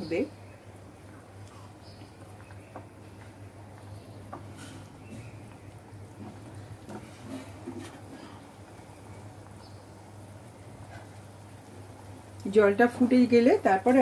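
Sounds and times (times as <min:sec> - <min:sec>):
pot bubbling: 0:00.0 - 0:14.0.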